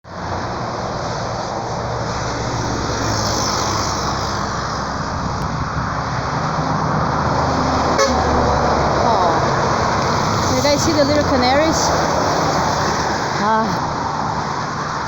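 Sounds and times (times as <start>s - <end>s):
road traffic rushing past: 0.0s - 15.0s.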